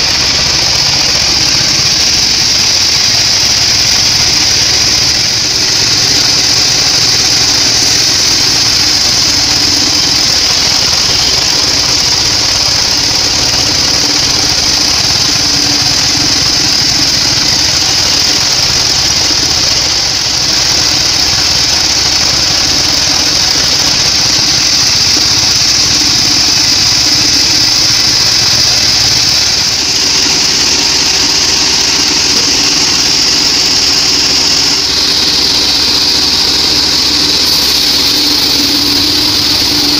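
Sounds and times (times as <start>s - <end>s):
bandsaw blade hissing: 0.0s - 39.9s
bandsaw motor drone: 0.0s - 39.9s.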